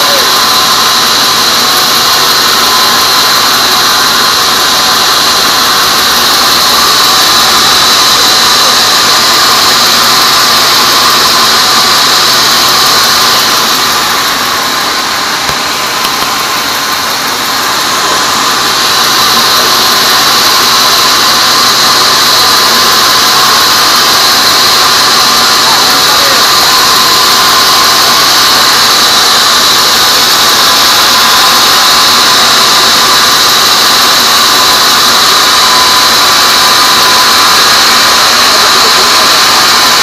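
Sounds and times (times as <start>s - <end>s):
band saw blade cutting wood: 0.0s - 40.0s
sawmill machine running: 0.0s - 40.0s.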